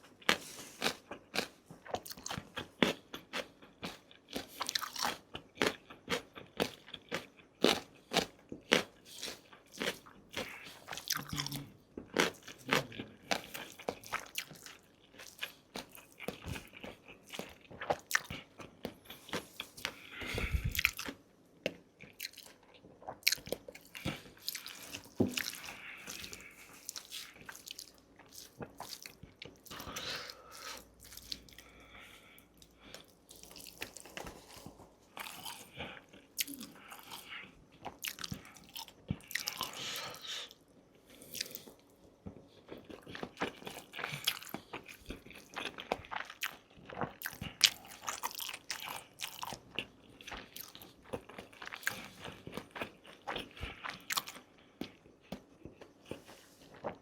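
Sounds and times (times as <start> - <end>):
person chewing with crunches: 0.0 - 57.0.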